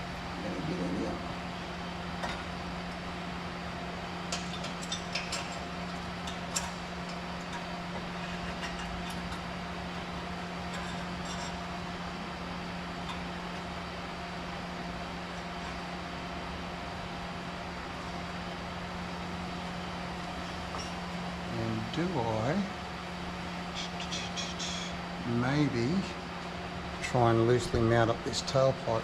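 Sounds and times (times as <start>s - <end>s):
low workshop hum: 0.0s - 29.0s.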